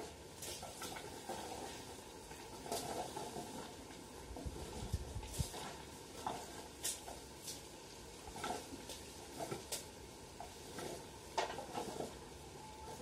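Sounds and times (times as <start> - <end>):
rake scraping on cement: 0.0 - 13.0.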